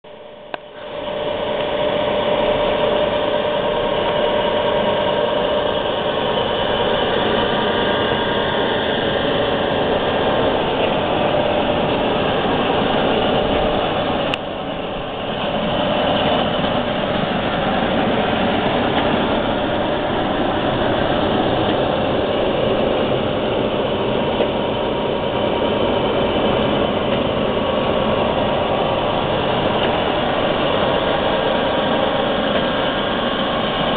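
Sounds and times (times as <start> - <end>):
conveyor motor humming: 0.1 - 33.9.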